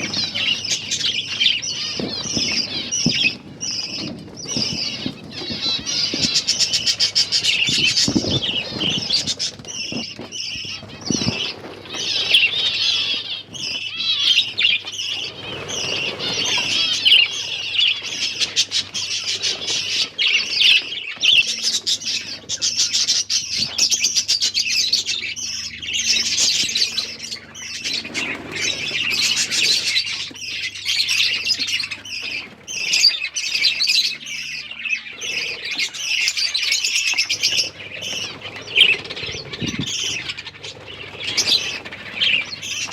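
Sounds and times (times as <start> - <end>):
finches chirping: 0.0 - 42.9
wing flutters: 0.0 - 42.9.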